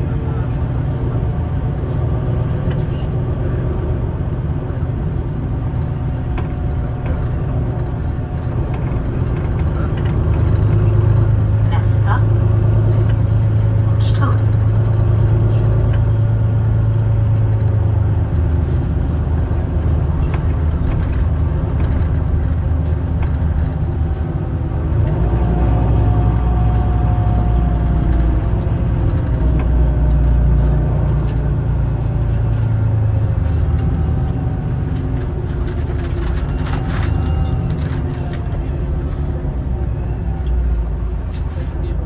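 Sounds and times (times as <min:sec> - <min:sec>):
bus engine and road rumble: 0:00.0 - 0:42.0.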